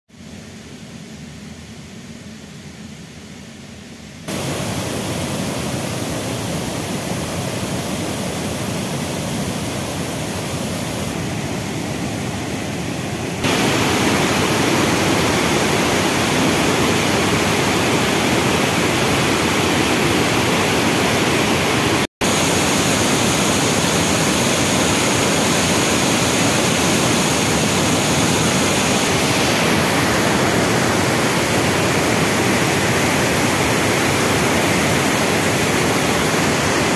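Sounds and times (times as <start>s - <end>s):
waterfall torrent rushing: 4.3s - 36.9s.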